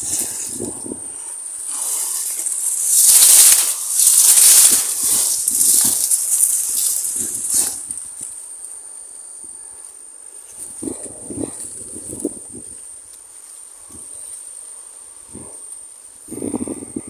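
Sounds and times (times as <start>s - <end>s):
grass and reeds rustling: 0.0s - 17.0s
high insect trill: 0.0s - 17.0s.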